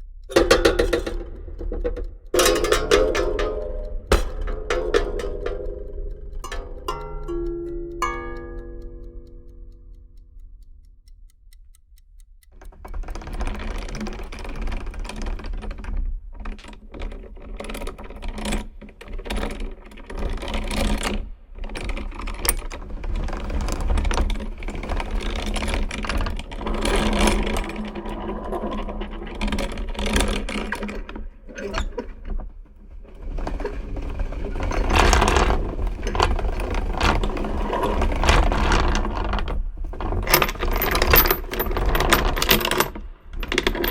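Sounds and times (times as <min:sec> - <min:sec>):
gear mechanism whirring and clicking: 0:00.0 - 0:09.4, 0:11.9 - 0:32.4, 0:33.2 - 0:43.9.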